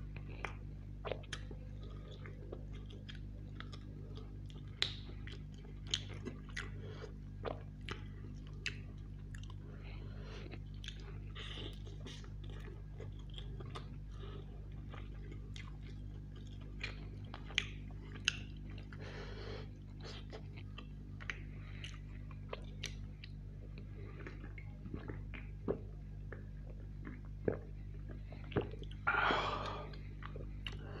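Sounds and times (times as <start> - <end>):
chewing and wet mouth sounds: 0.1 - 31.0.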